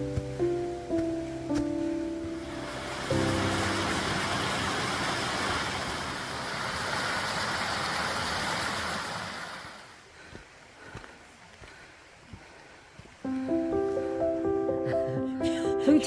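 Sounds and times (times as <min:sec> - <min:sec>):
rushing mountain stream: 0:00.0 - 0:13.4.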